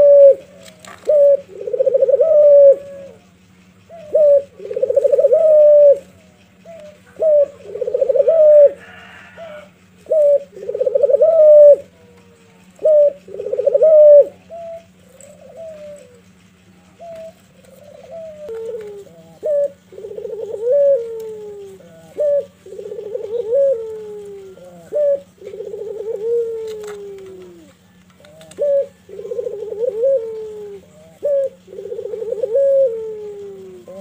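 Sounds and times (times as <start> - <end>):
dove cooing: 0.0 - 34.0
faint steady low hum: 0.0 - 34.0.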